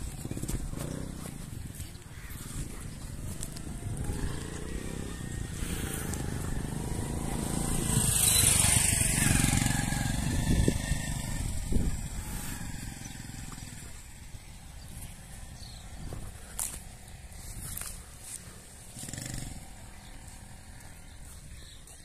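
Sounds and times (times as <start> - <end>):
vehicle passing by: 2.6 - 22.0.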